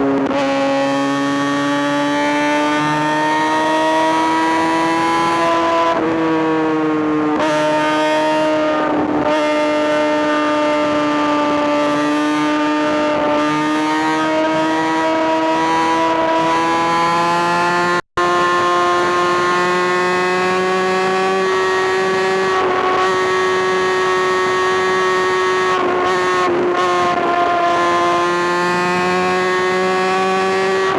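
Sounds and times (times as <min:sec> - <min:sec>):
motorcycle engine at high revs: 0:00.0 - 0:30.9.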